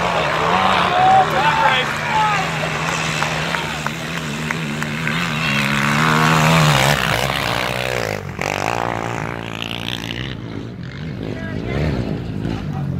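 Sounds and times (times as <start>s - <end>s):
quad engine revving: 0.0s - 12.9s.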